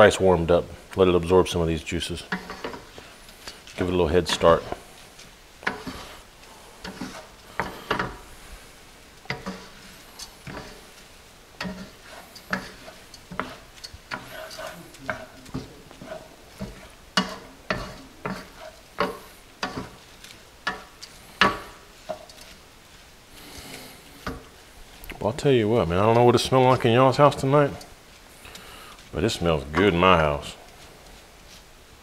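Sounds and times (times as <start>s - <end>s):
faint sizzle: 0.0s - 32.0s
spatula scraping a pan: 2.2s - 31.8s.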